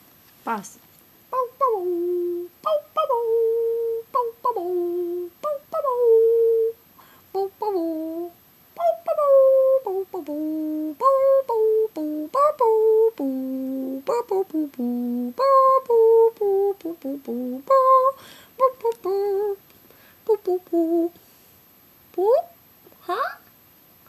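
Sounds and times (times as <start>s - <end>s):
woman humming: 1.3s - 19.6s, 22.2s - 23.5s.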